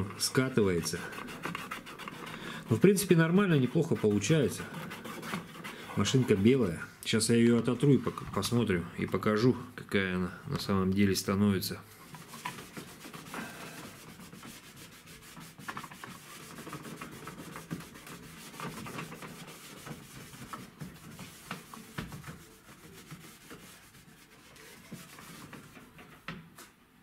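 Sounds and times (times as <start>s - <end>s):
cloth rubbing on plastic panel: 0.0s - 9.6s, 12.0s - 26.2s.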